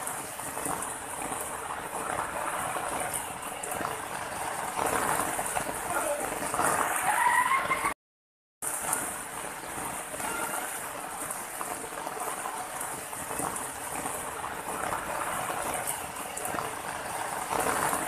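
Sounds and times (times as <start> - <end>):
water rushing and trickling: 0.0 - 8.0, 8.6 - 18.0.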